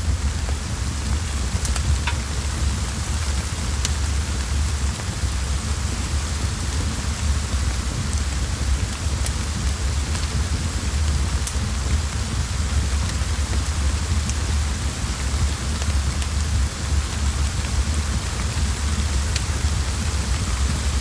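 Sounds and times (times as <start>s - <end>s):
low constant rumble: 0.0s - 21.0s
rain hiss: 0.0s - 21.0s
wood fire crackling: 0.0s - 21.0s.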